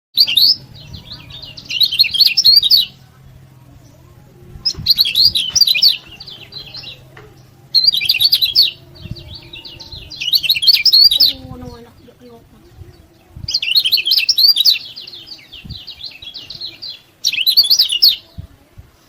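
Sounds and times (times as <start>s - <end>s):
bird chirping rapidly: 0.2s - 3.2s, 4.6s - 18.3s.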